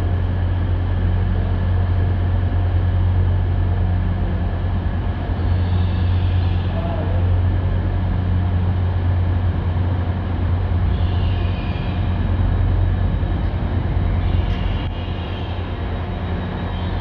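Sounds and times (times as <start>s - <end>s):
standing train running: 0.0s - 17.0s
train rolling in slowly: 0.0s - 17.0s.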